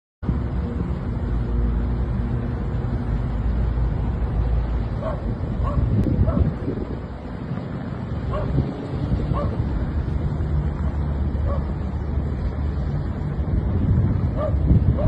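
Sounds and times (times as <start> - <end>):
low engine-like hum: 0.2 - 15.0
wind buffeting microphone: 2.6 - 15.0.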